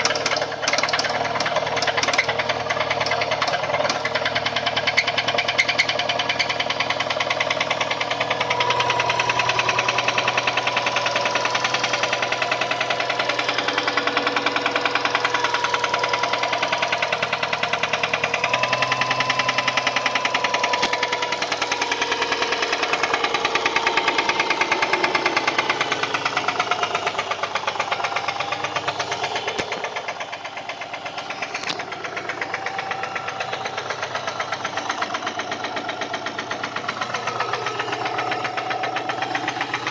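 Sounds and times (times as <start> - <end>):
engine running with rod knock: 0.0 - 39.9.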